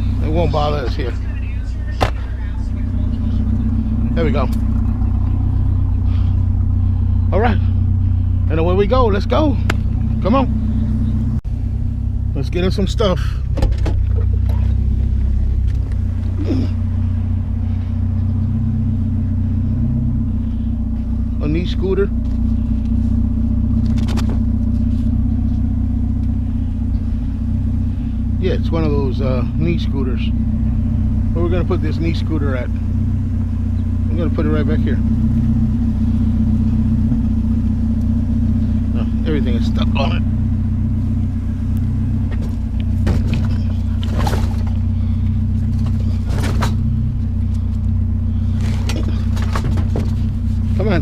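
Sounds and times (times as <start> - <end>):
vehicle engine droning: 0.0 - 51.0.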